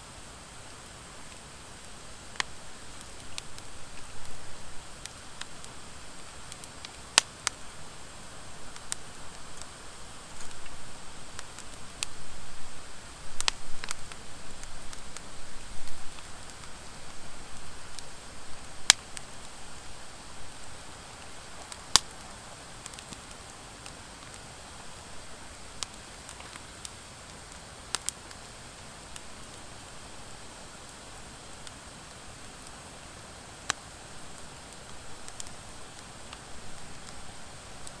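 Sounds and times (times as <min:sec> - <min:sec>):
wood fire crackling and popping: 0:00.4 - 0:38.0.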